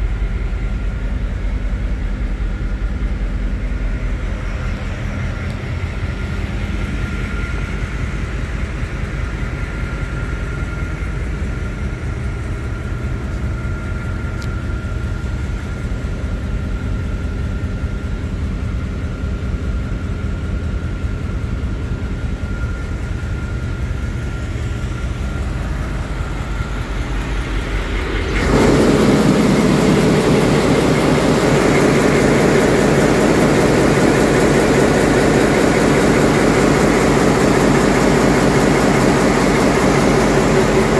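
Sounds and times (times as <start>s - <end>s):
diesel engine running: 0.0s - 40.9s
muffled engine room drone: 0.0s - 40.9s.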